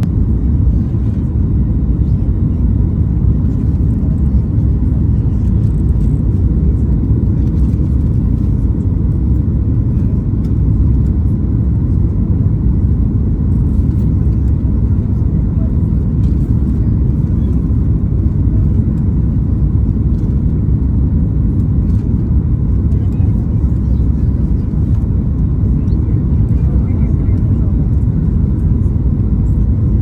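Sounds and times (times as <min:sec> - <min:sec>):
jet cabin rumble: 0:00.0 - 0:30.0.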